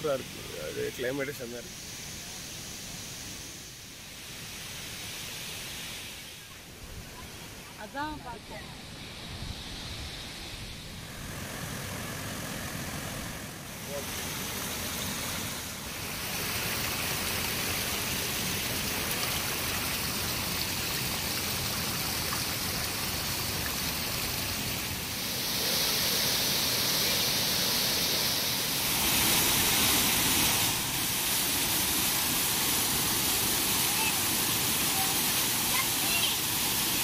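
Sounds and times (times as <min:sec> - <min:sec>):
waterfall rushing water: 0:00.0 - 0:37.0.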